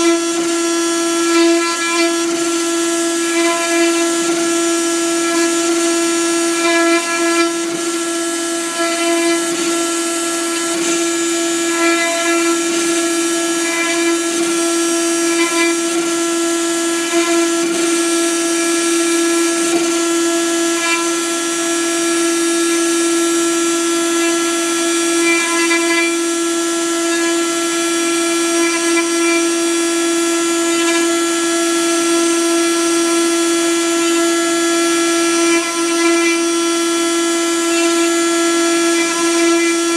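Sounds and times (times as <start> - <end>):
router spindle high-pitched whine: 0.0 - 39.9.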